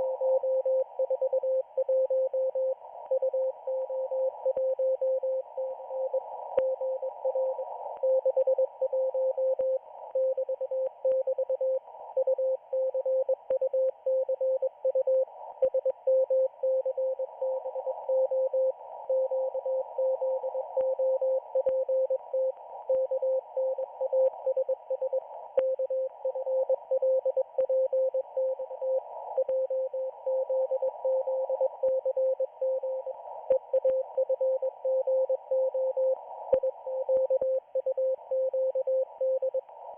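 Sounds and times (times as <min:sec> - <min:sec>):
faint static clicks: 0:00.0 - 0:39.9.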